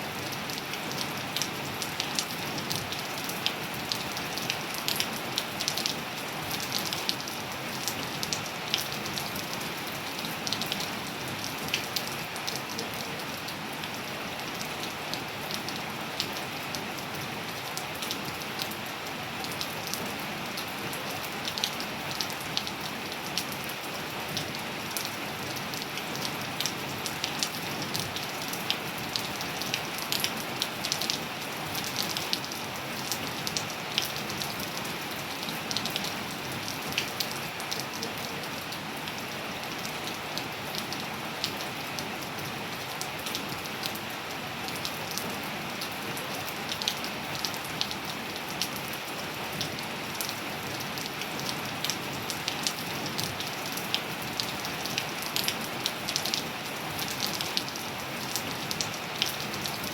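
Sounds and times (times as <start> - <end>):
rain falling: 0.0 - 59.9
raindrops ticking and splatting: 0.0 - 59.9.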